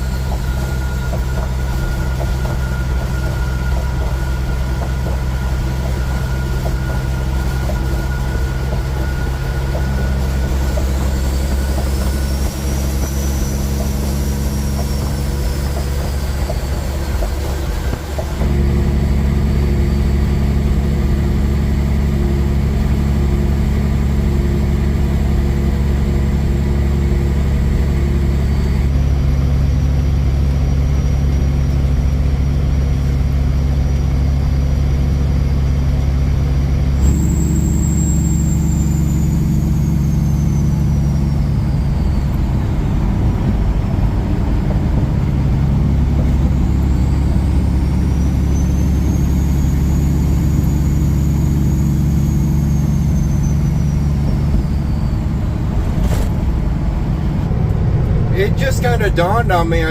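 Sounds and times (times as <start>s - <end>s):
road rumble: 0.0s - 59.9s
truck diesel engine drone: 0.0s - 59.9s.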